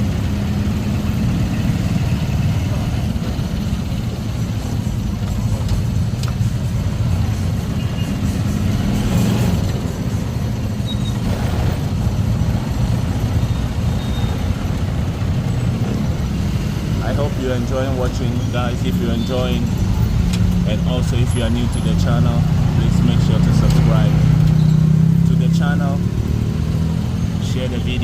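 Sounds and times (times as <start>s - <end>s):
motorcycle engine rumbling: 0.0s - 28.0s.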